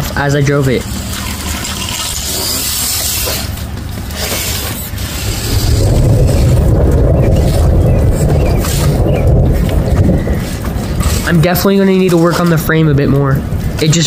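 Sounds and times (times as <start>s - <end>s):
rc car motor and tyres rumbling: 0.0s - 14.0s.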